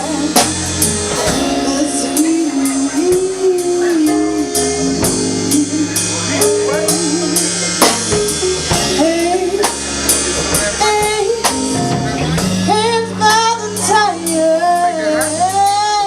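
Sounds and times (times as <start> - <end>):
woman singing: 0.0 - 7.6, 8.8 - 12.0, 12.6 - 16.0
drum kit with cymbals: 0.0 - 16.0
keyboard or bass chords: 0.0 - 16.0.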